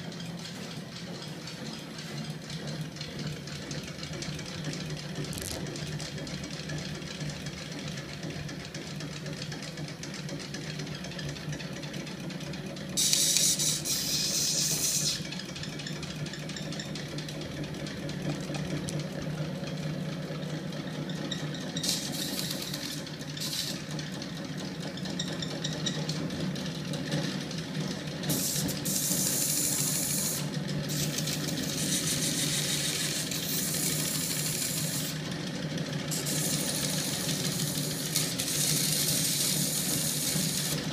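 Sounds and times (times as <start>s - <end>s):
flywheel mechanical hum: 0.0s - 40.9s.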